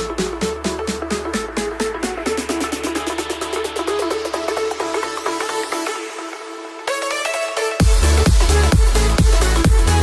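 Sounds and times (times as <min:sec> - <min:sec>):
heavy beat with deep bass: 0:00.0 - 0:10.0.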